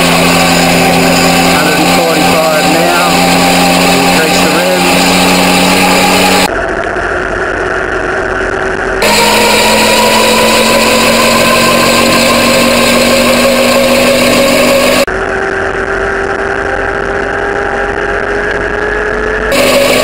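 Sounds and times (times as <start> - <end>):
aircraft engine running: 0.0 - 20.0.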